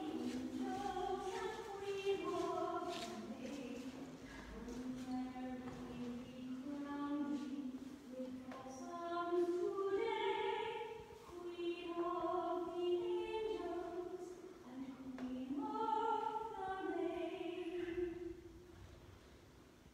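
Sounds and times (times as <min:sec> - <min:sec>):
woman singing a hymn: 0:00.0 - 0:18.6.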